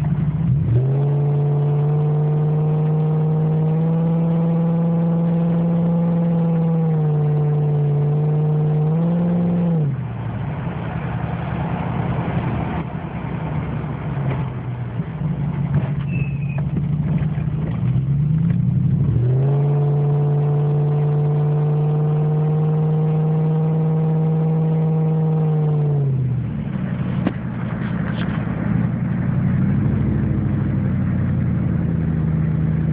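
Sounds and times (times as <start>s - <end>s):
loud open exhaust engine drone: 0.0s - 32.9s.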